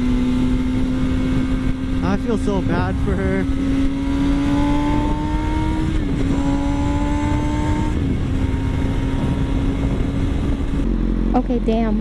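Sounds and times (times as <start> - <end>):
wind rush: 0.0 - 10.9
motorcycle engine revving: 0.0 - 12.0.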